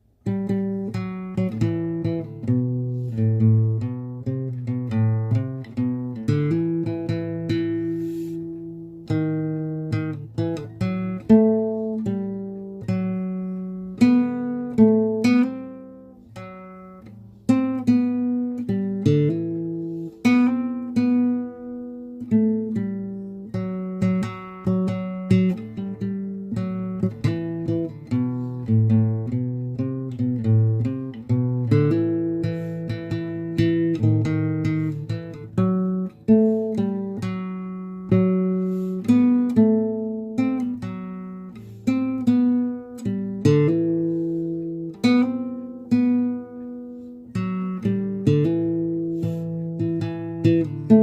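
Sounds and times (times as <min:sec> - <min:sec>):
acoustic guitar melody: 0:00.0 - 0:51.0.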